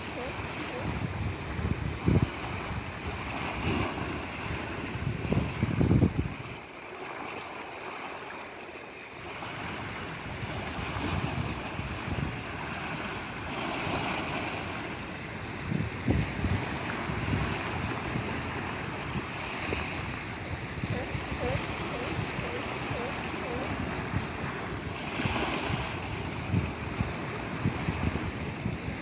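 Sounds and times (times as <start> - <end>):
wind buffeting microphone: 0.0 - 6.6, 9.5 - 29.0
ocean water surging: 0.0 - 29.0.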